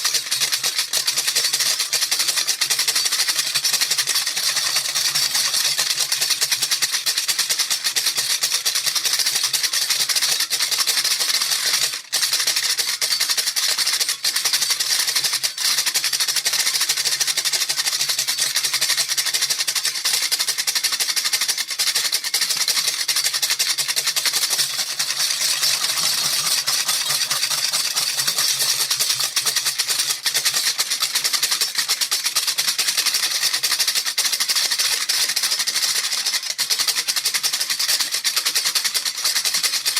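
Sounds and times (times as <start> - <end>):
baby rattle shaken rapidly: 0.0 - 39.9.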